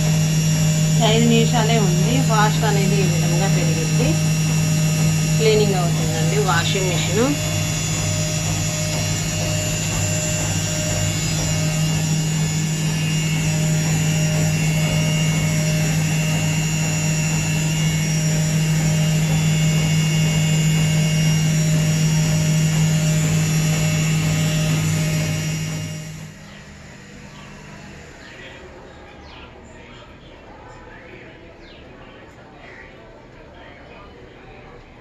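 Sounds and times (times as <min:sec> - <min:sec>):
washing machine drum spinning: 0:00.0 - 0:28.8.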